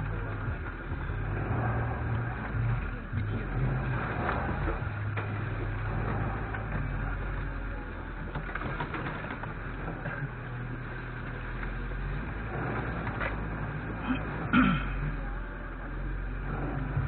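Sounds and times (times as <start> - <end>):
noisy rumble: 0.0 - 17.0
vehicle engine running: 0.0 - 17.0.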